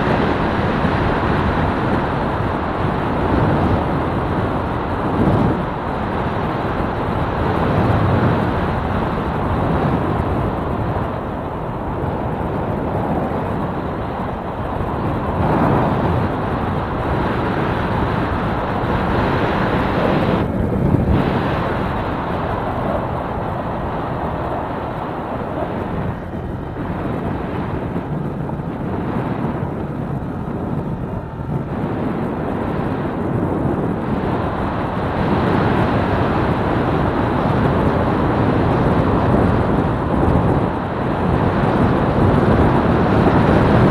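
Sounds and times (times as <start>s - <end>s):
motorcycle engine and tyres: 0.0s - 43.9s
wind rushing over microphone: 0.0s - 43.9s.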